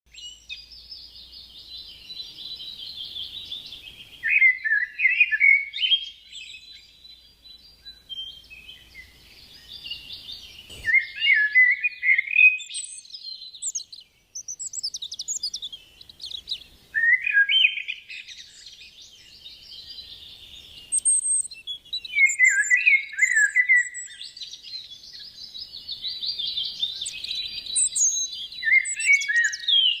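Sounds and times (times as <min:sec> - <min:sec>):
birds singing: 0:00.1 - 0:30.0.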